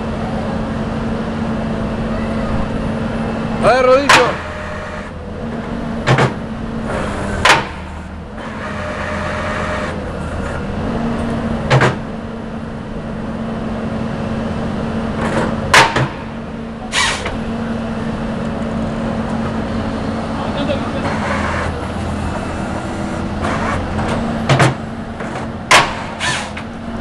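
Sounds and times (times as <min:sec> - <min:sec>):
excavator engine and hydraulics humming: 0:00.0 - 0:27.0.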